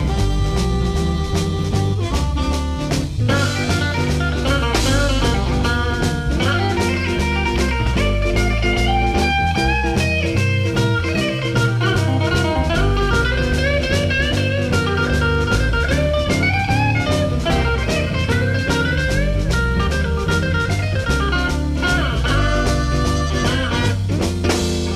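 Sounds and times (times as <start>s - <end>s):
bass guitar: 0.0s - 24.9s
drum kit beat: 0.0s - 24.9s
electric guitar with bent notes: 0.0s - 24.9s.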